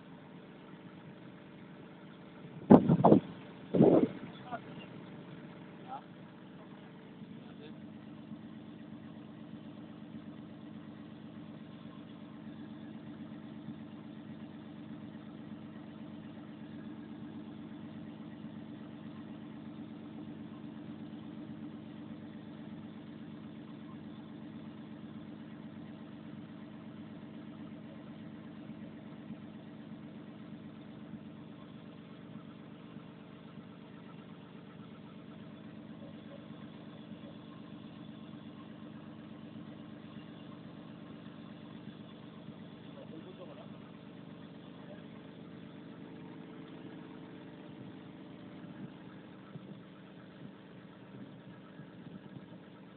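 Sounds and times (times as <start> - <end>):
excavator diesel engine idling: 0.0 - 52.9.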